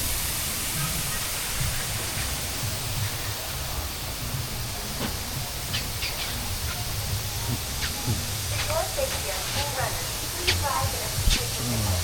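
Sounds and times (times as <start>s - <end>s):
rushing spraying water: 0.0s - 12.0s.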